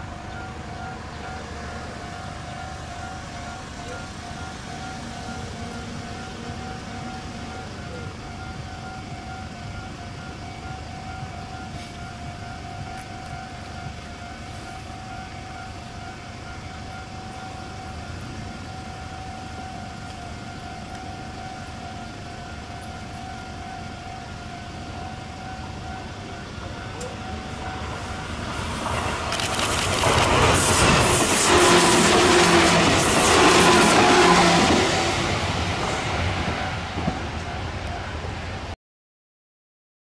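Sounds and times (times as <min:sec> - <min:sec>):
steady high tone: 0:00.0 - 0:38.8
train rumble: 0:00.0 - 0:38.8.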